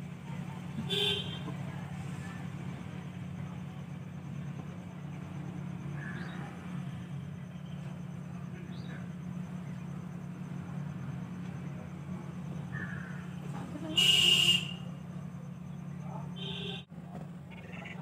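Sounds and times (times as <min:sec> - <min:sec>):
low motor-like hum: 0:00.0 - 0:18.0.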